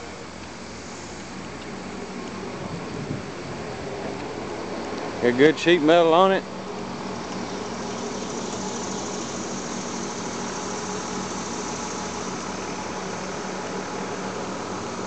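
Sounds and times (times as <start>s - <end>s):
excavator diesel engine idling: 0.0s - 15.0s.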